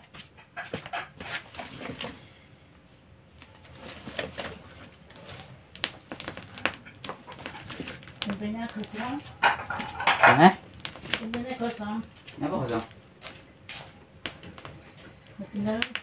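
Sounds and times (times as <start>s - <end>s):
firewood knocking and clattering: 0.0s - 2.4s, 3.3s - 16.0s.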